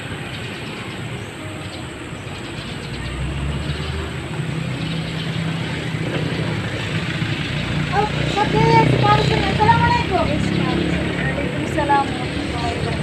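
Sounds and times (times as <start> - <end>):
low engine hum: 0.0 - 13.0
rushing traffic noise: 0.0 - 13.0.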